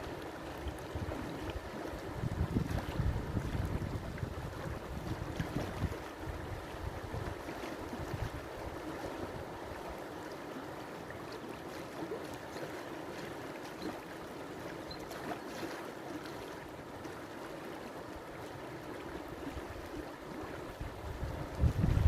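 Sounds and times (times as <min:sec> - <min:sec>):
river water flowing: 0:00.0 - 0:22.0
small water splashes: 0:00.0 - 0:22.0.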